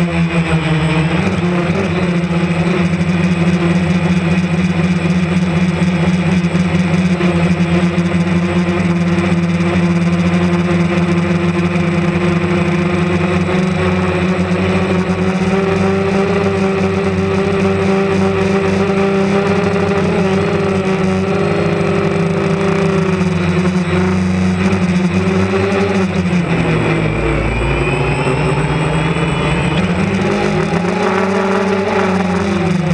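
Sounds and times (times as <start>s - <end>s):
drone propellers droning: 0.0s - 32.9s.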